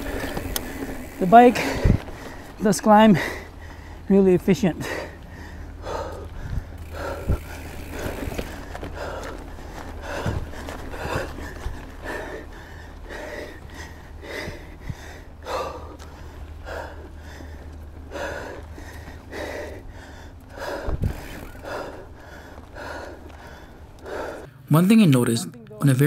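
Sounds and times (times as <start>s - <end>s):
heavy quick breathing: 0.0s - 4.1s, 4.8s - 24.6s
low steady rumble: 0.0s - 24.7s.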